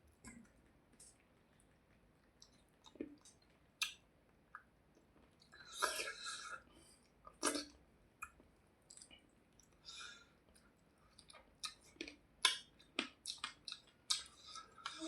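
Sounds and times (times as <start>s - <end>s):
man chewing food: 0.1s - 9.8s, 10.5s - 15.0s.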